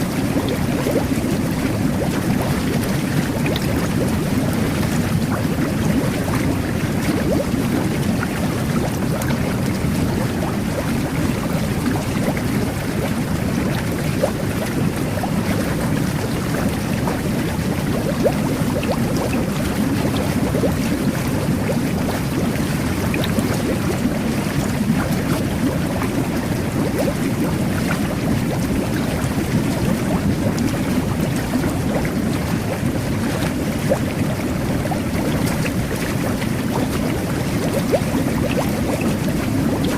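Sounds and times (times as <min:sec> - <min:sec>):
bubbles bursting: 0:00.0 - 0:39.9
jet bath bubbling water: 0:00.0 - 0:39.9.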